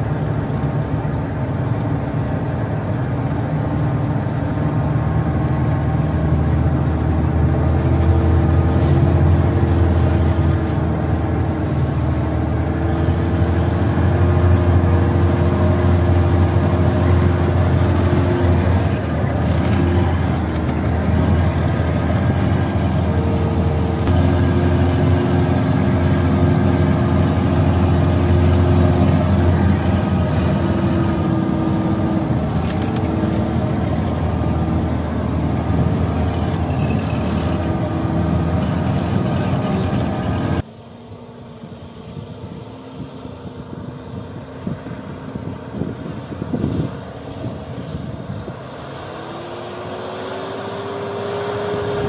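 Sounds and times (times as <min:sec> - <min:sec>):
tracked vehicle engine running: 0:00.0 - 0:52.0.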